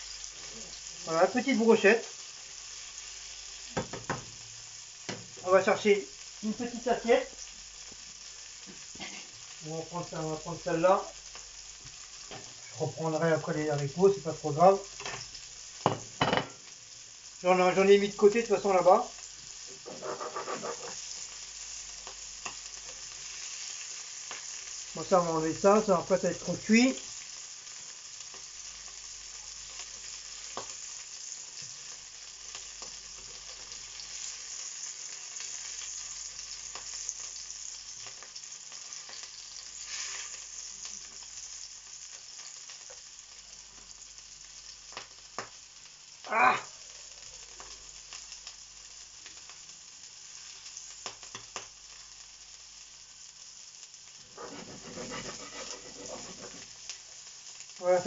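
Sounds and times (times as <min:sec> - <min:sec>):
food sizzling in frying pan: 0:00.0 - 0:58.0.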